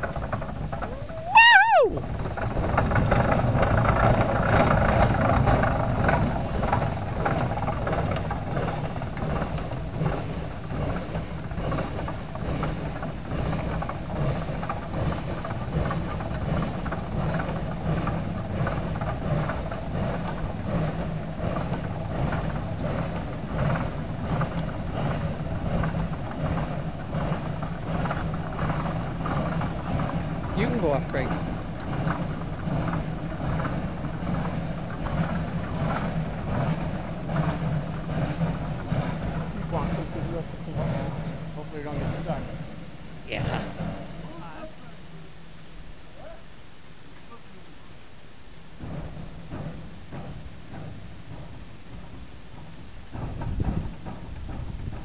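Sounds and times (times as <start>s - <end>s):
steam engine exhaust beating: 0.0s - 55.0s.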